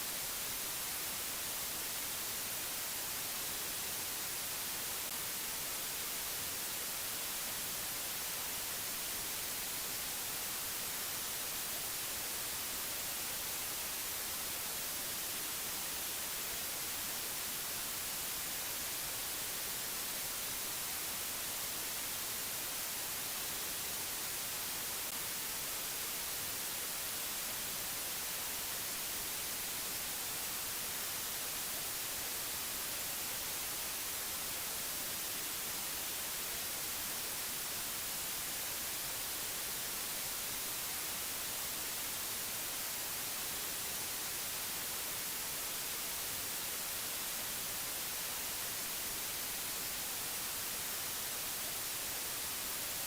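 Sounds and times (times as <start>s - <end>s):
steady static hiss: 0.0s - 53.0s.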